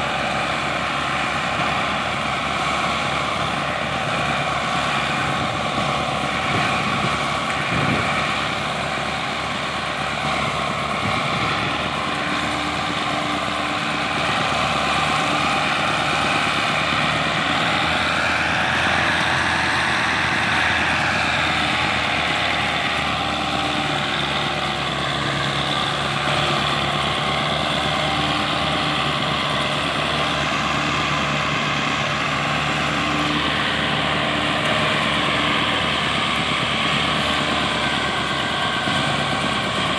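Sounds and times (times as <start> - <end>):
diesel tractor engines under load: 0.0 - 39.9.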